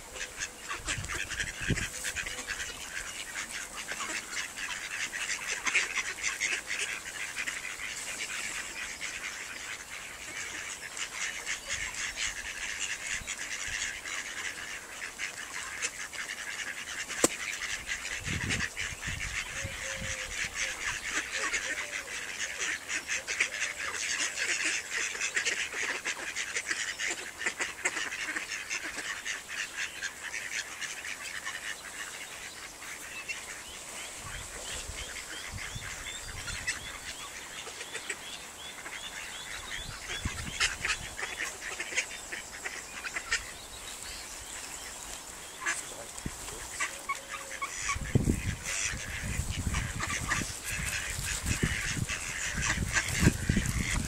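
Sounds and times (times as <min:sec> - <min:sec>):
ducks quacking and peeping: 0:00.0 - 0:54.0.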